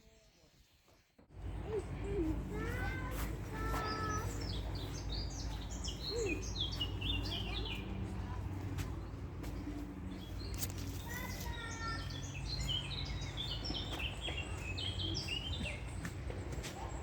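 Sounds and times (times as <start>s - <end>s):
low outdoor background noise: 0.0s - 17.0s
songbird chirping: 0.0s - 17.0s.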